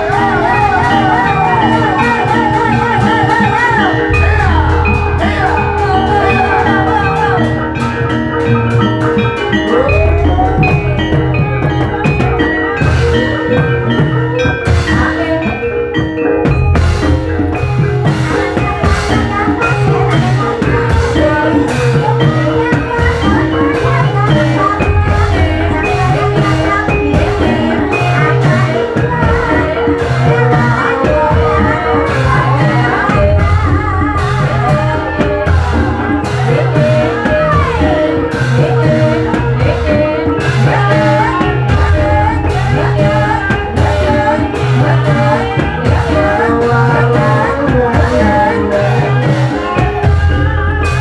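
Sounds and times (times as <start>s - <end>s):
person singing: 0.0s - 16.4s, 17.1s - 51.0s
drums: 0.0s - 51.0s
gamelan-style music over loudspeakers: 0.0s - 51.0s
metallophones striking melody: 0.0s - 51.0s.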